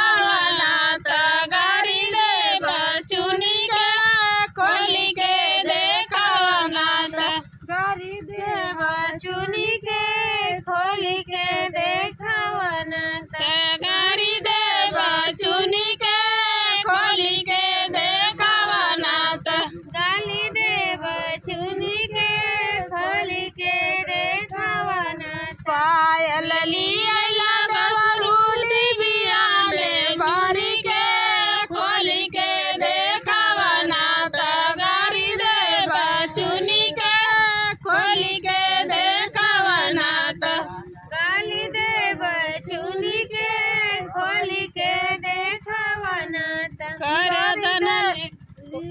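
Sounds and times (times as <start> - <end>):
women singing folk song: 0.0 - 48.9.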